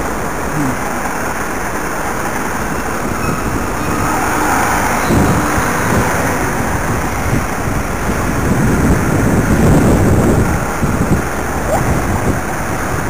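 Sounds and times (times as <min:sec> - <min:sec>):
street traffic rumble: 0:00.0 - 0:13.0
wind buffeting microphone: 0:00.1 - 0:13.0.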